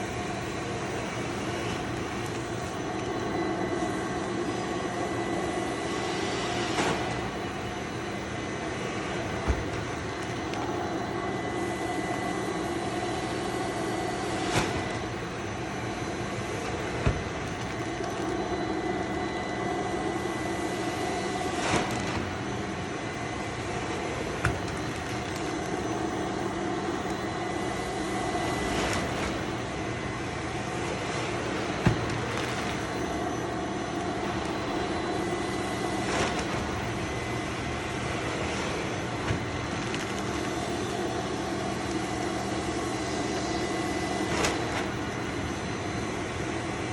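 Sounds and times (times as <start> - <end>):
machinery humming with high whine: 0.0 - 46.9.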